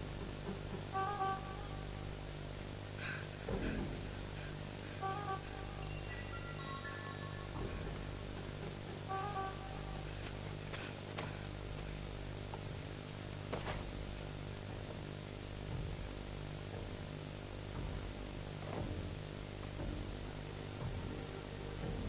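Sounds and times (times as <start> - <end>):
low hum with hiss: 0.0 - 22.0.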